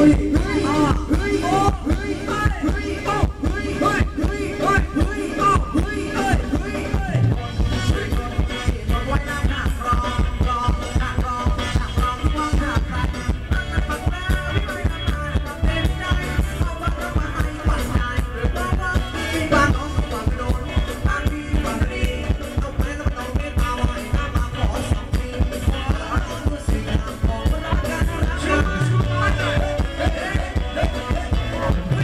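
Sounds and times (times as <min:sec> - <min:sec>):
live band playing dance music: 0:00.0 - 0:32.0.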